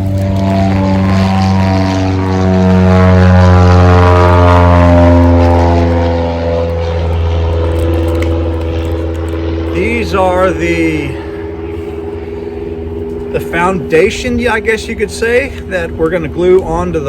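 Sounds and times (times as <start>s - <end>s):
propeller airplane passing: 0.0s - 17.0s.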